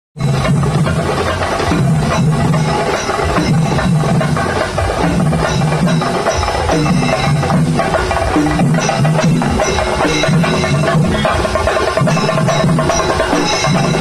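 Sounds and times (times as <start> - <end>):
cymbal clashes: 0.2 - 14.0
low shifting pitched tone: 0.2 - 14.0
rapid drum strokes: 0.2 - 14.0.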